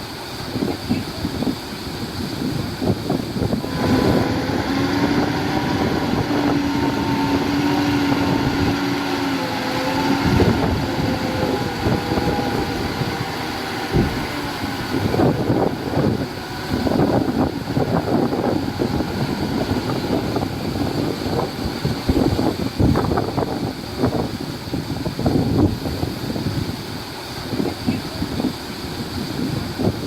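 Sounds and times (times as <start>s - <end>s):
heavy diesel engine under load: 0.0s - 30.0s
wind on microphone: 0.0s - 30.0s.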